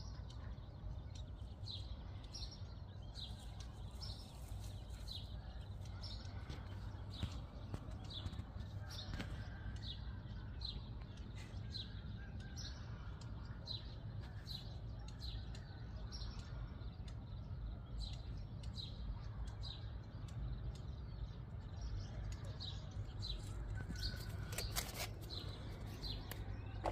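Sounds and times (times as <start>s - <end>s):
bird chirping: 0.0s - 26.9s.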